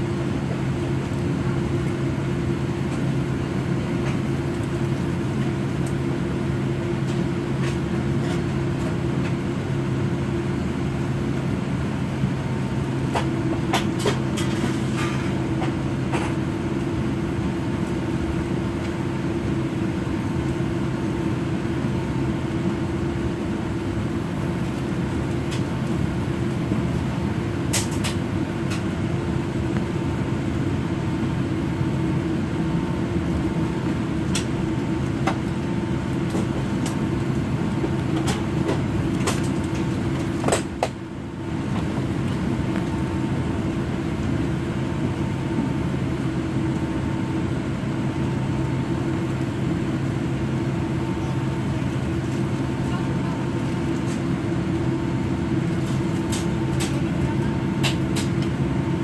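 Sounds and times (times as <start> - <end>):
aircraft engine hum in cabin: 0.0 - 59.0.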